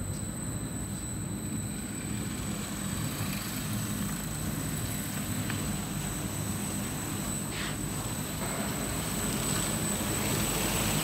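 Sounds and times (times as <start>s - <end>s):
sanding machine humming and whining: 1.8s - 11.0s.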